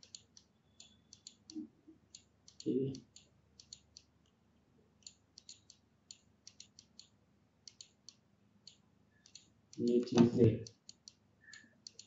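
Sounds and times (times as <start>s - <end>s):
mouse and keyboard clicks: 0.0s - 4.1s, 5.0s - 12.0s.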